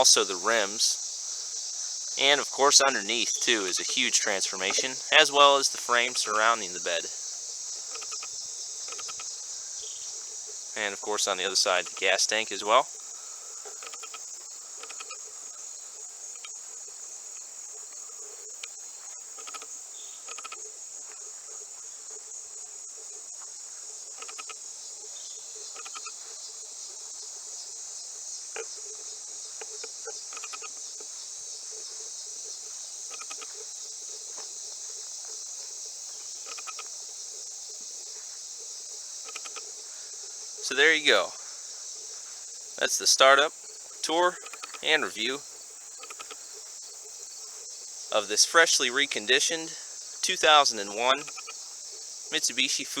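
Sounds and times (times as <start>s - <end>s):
faint insect chirps: 0.0s - 53.0s
insects trilling: 0.0s - 53.0s.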